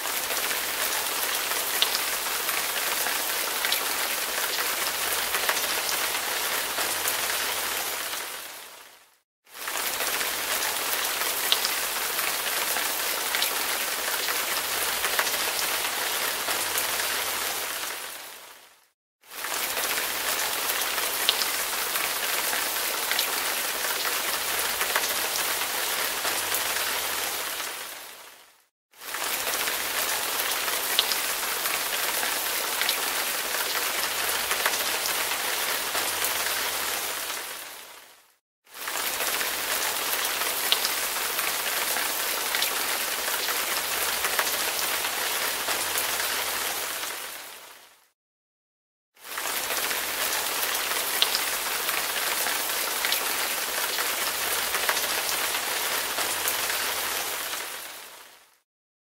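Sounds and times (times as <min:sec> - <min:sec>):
rain falling: 0:00.0 - 0:48.1, 0:49.2 - 0:58.6.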